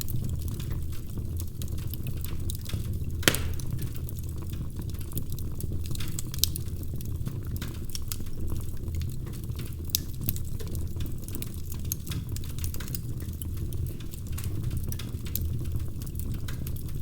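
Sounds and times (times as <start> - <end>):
wood fire crackling: 0.3 - 17.0.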